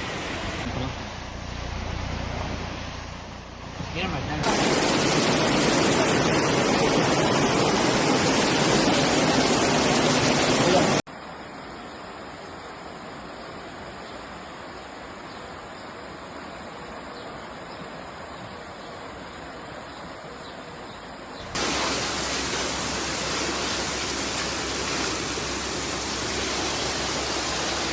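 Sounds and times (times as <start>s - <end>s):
floodwater rushing: 0.0s - 27.9s.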